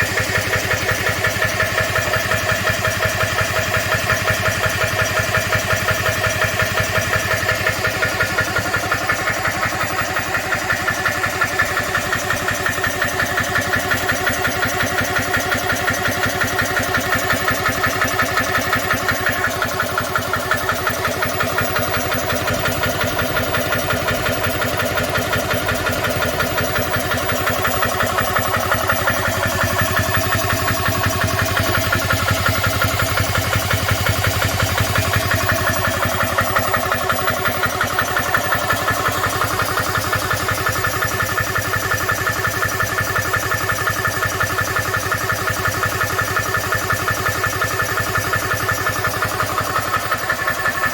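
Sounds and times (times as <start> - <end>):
air compressor pumping: 0.0 - 50.9.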